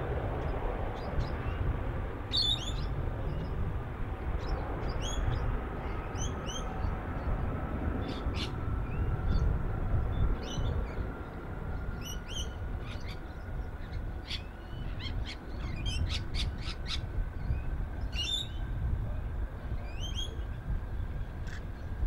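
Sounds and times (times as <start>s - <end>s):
distant jet engines roaring: 0.0s - 22.0s.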